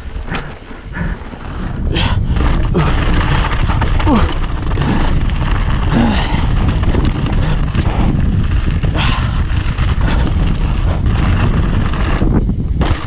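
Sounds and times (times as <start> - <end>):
bike tyres rolling over gravel: 0.0 - 13.0
wind buffeting microphone: 0.0 - 13.0.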